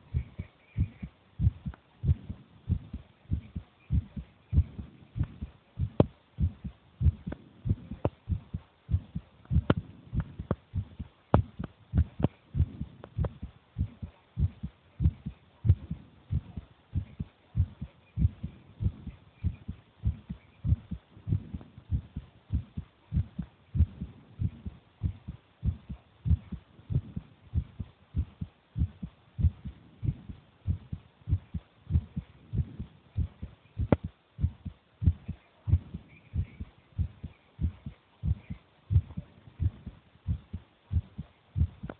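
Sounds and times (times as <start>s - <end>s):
heartbeat thumps: 0.0s - 41.9s.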